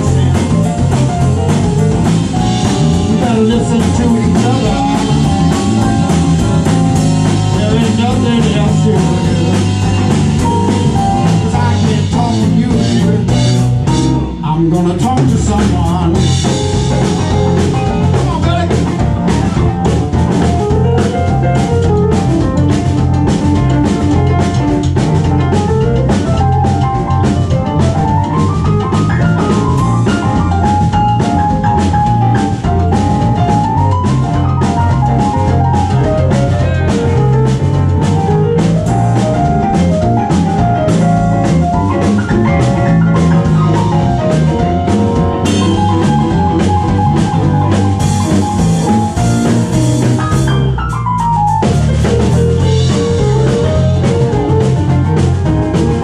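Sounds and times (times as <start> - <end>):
bass: 0.0 - 56.0
drum kit beat: 0.0 - 56.0
melodic lead line: 0.0 - 56.0.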